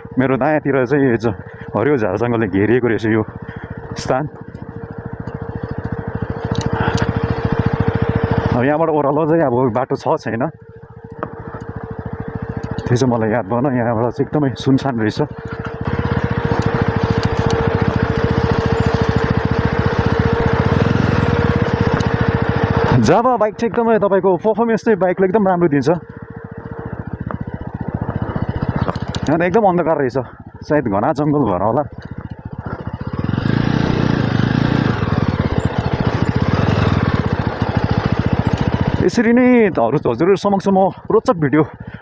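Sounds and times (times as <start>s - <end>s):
road and wind noise: 0.0s - 9.7s, 10.6s - 42.0s
steady whine: 0.0s - 41.5s
motorcycle engine running: 0.0s - 42.0s.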